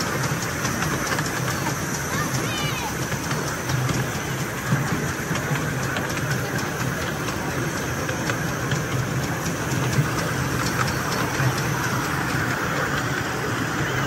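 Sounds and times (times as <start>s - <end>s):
low locomotive hum: 0.0s - 14.0s
track clicks: 0.0s - 14.0s
train wheels rumbling on rails: 0.0s - 14.0s.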